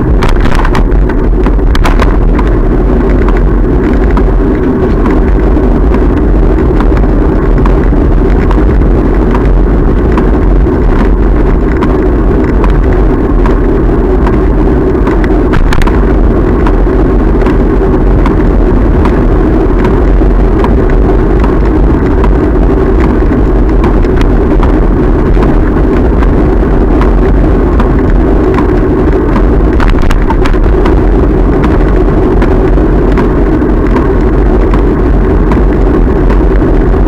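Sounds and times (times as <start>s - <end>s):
road rumble: 0.0s - 37.0s
wind rush on microphone: 0.0s - 37.0s.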